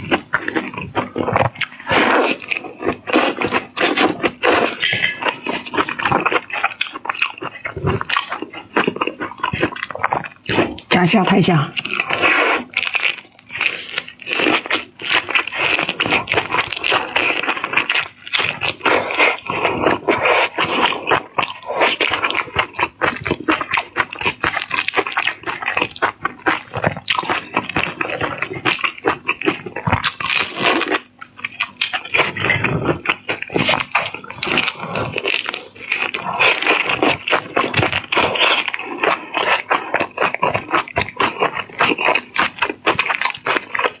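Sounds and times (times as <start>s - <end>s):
seafood being crunched and chewed: 0.0s - 11.0s, 11.7s - 44.0s.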